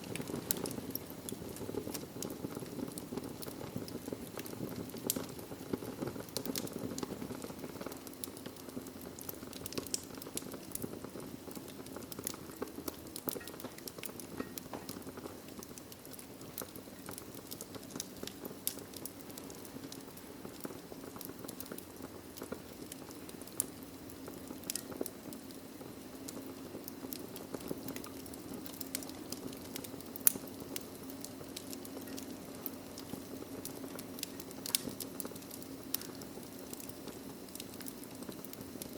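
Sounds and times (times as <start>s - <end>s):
fire crackling and popping: 0.0s - 38.9s
fire flames rushing: 0.0s - 38.9s.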